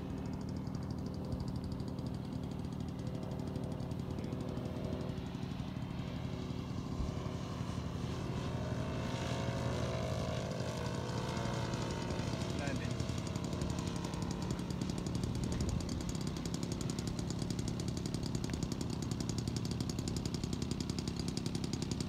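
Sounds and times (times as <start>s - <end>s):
model plane engine droning: 0.0s - 22.0s.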